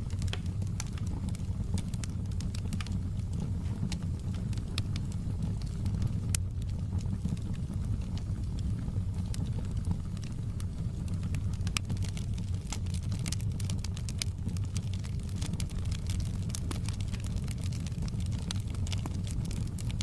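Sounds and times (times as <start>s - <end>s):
fire rumbling: 0.0s - 20.0s
wood crackling and popping: 0.0s - 20.0s.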